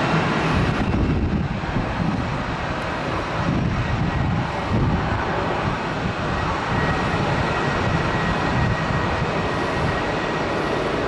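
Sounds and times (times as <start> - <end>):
faint high whine: 0.0 - 11.0
jet engines rumbling: 0.0 - 11.0.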